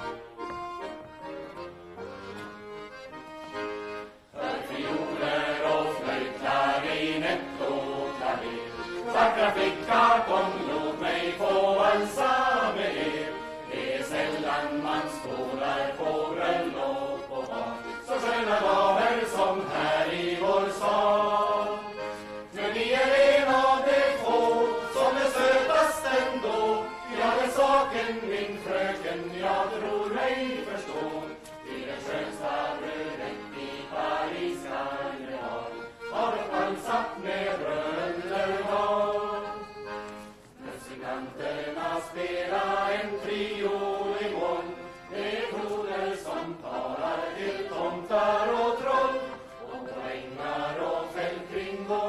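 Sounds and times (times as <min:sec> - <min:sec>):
accordion folk dance tune: 0:00.0 - 0:52.0
group of voices singing: 0:04.4 - 0:40.0, 0:40.6 - 0:52.0.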